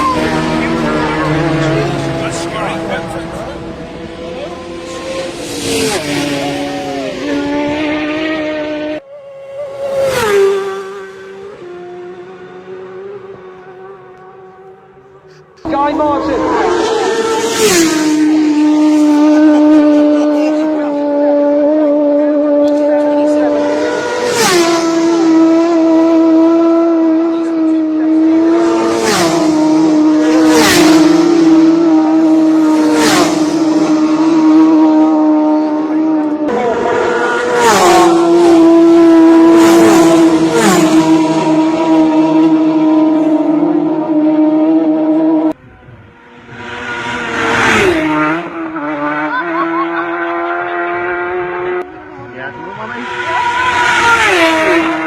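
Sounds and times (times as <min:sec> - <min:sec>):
racing motorcycles passing: 0:00.0 - 0:55.0.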